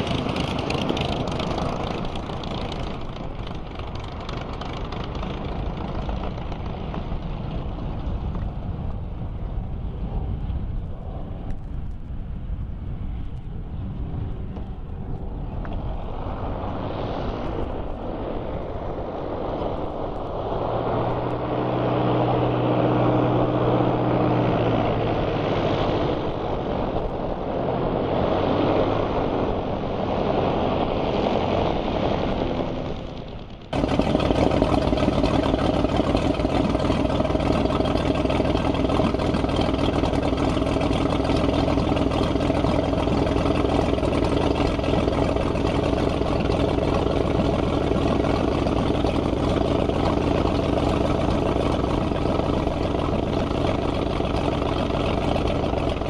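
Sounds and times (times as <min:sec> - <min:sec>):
light aircraft piston engine: 0:00.0 - 0:56.0
six-cylinder aircraft engine: 0:00.0 - 0:56.0.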